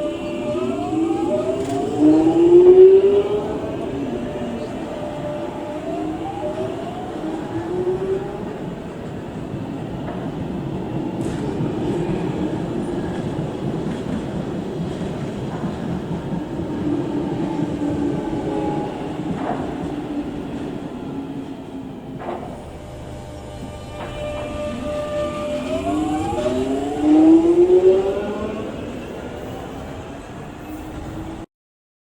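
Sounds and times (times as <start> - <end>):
train traction motors whining: 0.0 - 30.4
train wheels on rails: 0.0 - 31.5.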